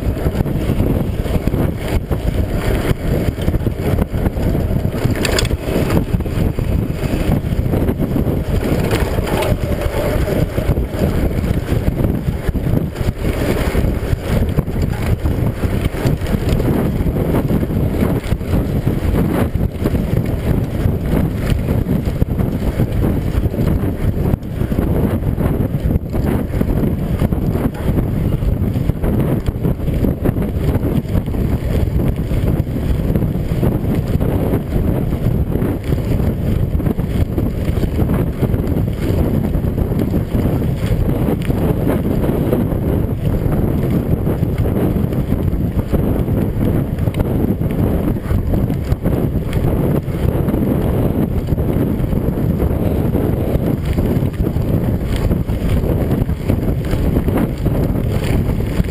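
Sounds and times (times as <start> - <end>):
bike tyres rumbling on gravel: 0.0 - 58.9
wind buffeting microphone: 0.0 - 58.9.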